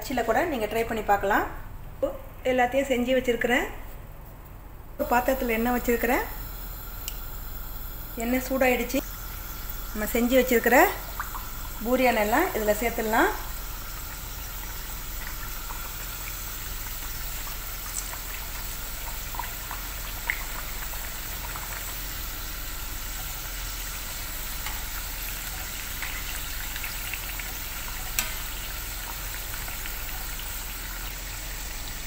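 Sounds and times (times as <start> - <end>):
pastries sizzling in hot oil: 5.0 - 32.0.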